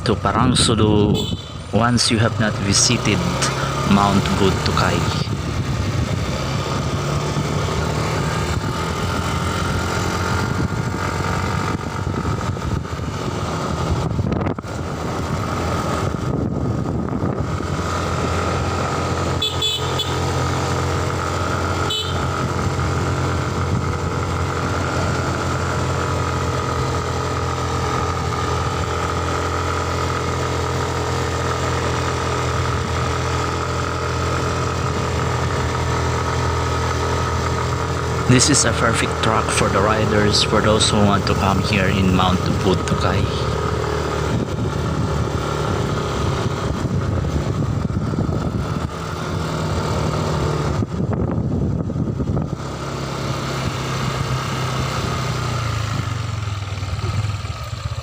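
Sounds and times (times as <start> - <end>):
scooter engine running: 0.4 - 58.0.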